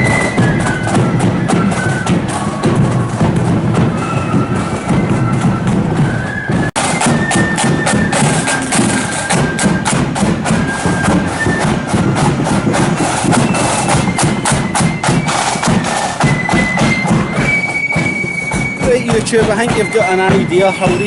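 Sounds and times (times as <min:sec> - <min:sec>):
marching band playing: 0:00.0 - 0:21.0
snare and bass drums: 0:00.0 - 0:21.0.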